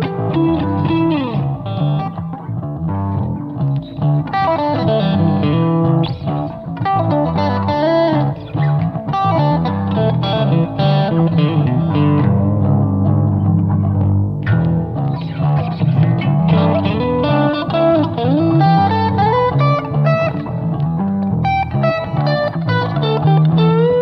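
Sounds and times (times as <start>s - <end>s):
bass line: 0.0s - 24.0s
electric guitar: 0.0s - 24.0s.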